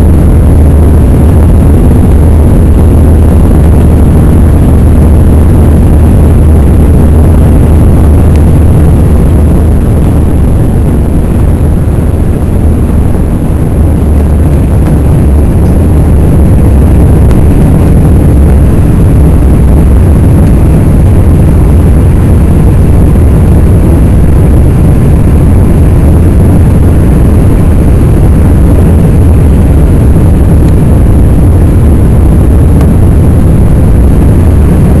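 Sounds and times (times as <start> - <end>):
jet engines rumbling: 0.0 - 35.0.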